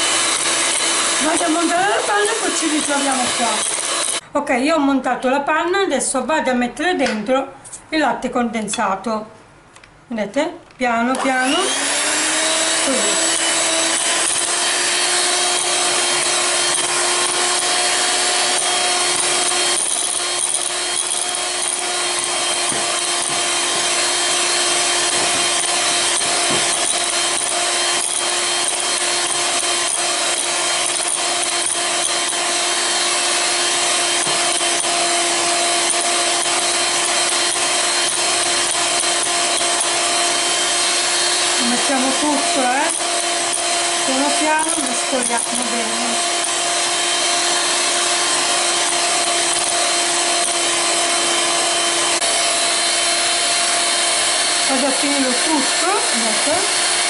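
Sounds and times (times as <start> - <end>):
electric hand mixer whipping: 0.0 - 4.2, 11.1 - 57.0.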